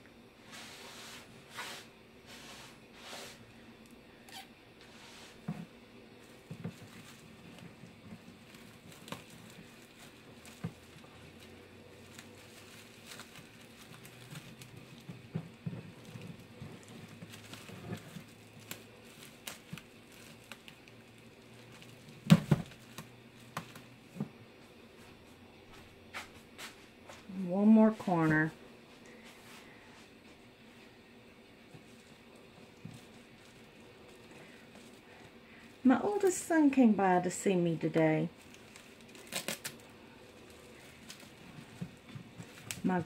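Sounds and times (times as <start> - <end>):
bubble wrap crinkling: 0.4 - 25.3, 29.0 - 43.0.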